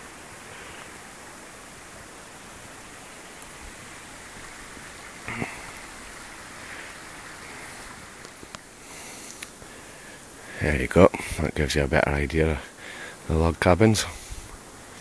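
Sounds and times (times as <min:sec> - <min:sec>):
outdoor rushing hiss: 0:00.0 - 0:15.0.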